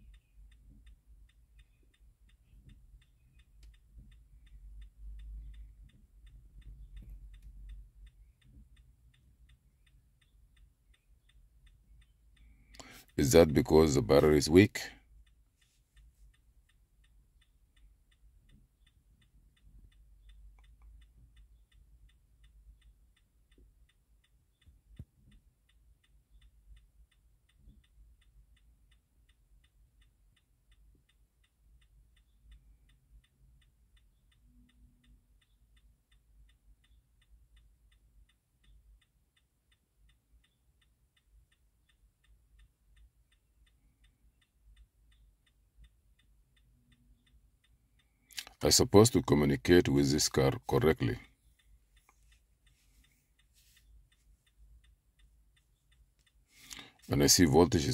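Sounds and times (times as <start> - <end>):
faint rapid ticking: 0.0 - 57.9.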